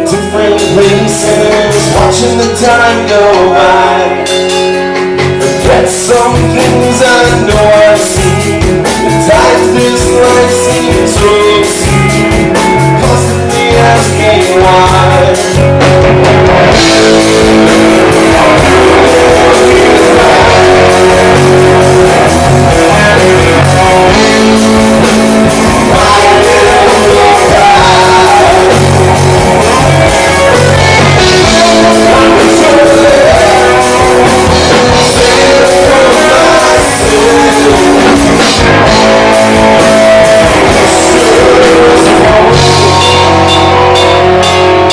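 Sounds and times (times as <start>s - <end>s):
man singing: 0.0s - 15.9s, 16.7s - 44.2s
live rock band playing: 0.0s - 44.9s.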